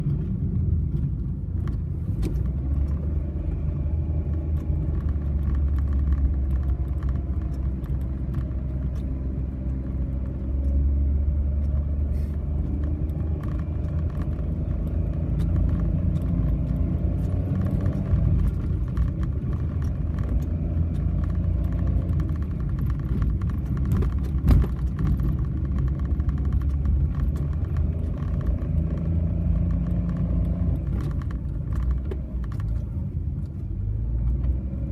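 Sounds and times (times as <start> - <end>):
car engine running uphill: 0.0 - 34.9
small clicks: 0.9 - 34.9.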